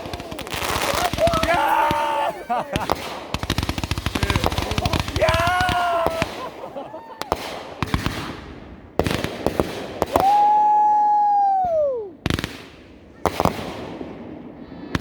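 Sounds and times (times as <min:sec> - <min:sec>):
firework bangs: 0:00.0 - 0:15.0.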